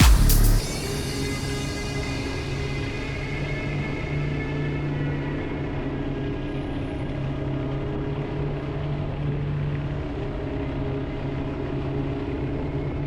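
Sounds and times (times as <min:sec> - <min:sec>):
motorcycle engine low drone: 0:00.0 - 0:13.0.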